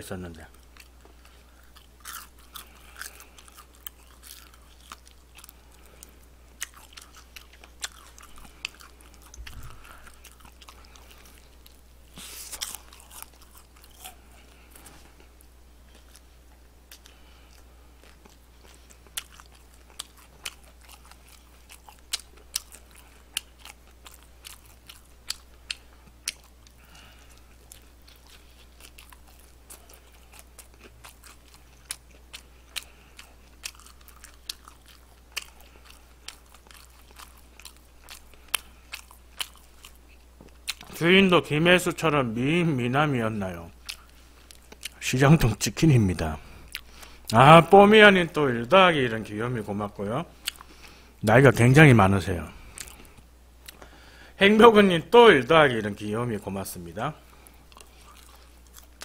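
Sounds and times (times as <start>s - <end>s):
crunchy fried chicken chewing: 0.3s - 41.0s, 43.7s - 45.0s, 45.9s - 47.4s, 50.4s - 51.2s, 52.5s - 54.2s, 56.8s - 59.0s.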